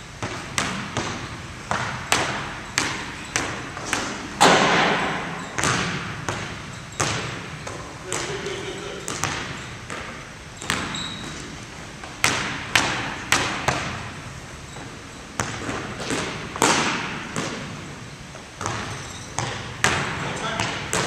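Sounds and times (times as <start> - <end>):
basketball bouncing on wooden floor: 0.2 - 11.4, 12.0 - 14.1, 14.8 - 21.0.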